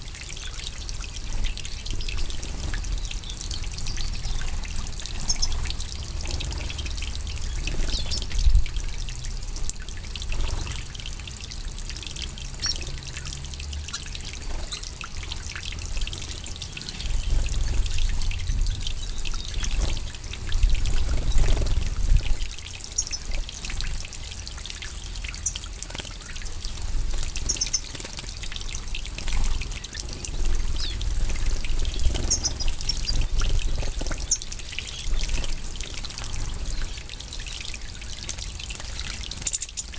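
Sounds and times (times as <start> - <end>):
water spraying into a pool: 0.0 - 39.9.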